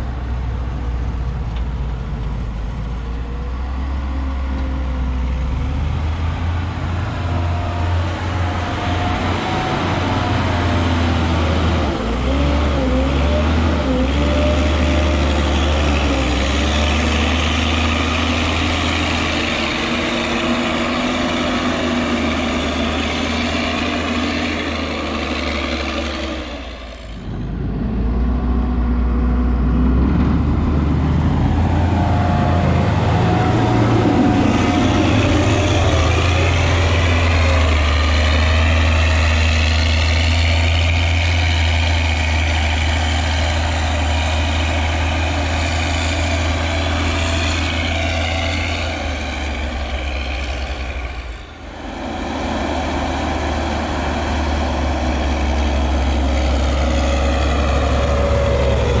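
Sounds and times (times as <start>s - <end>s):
diesel engine drone with whine: 0.0s - 59.0s.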